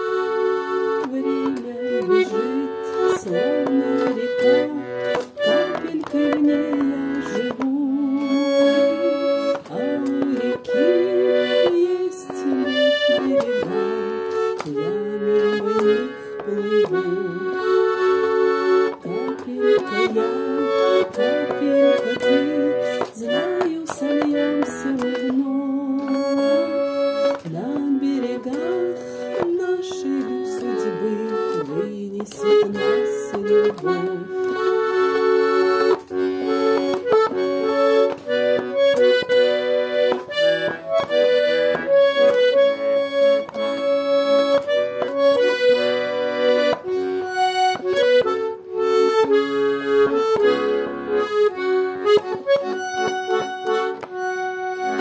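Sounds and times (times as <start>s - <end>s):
button accordion melody: 0.0s - 55.0s.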